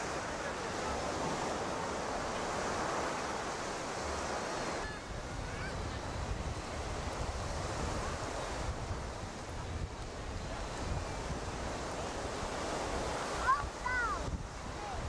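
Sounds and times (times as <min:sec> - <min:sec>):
surf on a beach: 0:00.0 - 0:15.0
wind buffeting microphone: 0:01.0 - 0:15.0.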